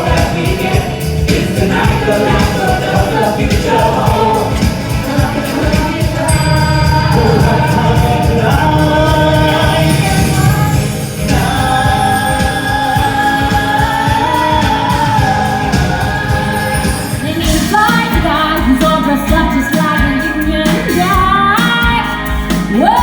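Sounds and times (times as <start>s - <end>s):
backing harmonies: 0.0s - 23.0s
full band backing track: 0.0s - 23.0s
lead vocal singing: 0.0s - 23.0s.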